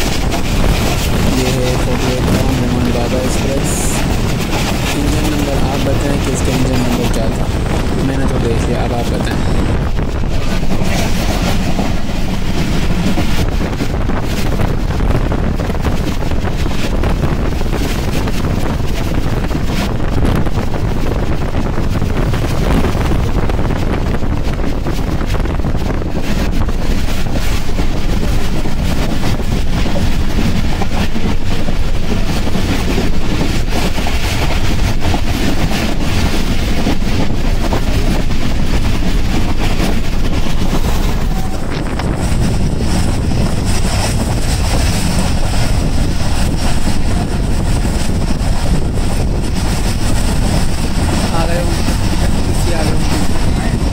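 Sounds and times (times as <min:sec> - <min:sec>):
train carriage running on rails: 0:00.0 - 0:53.9
wind rushing over microphone: 0:00.0 - 0:53.9.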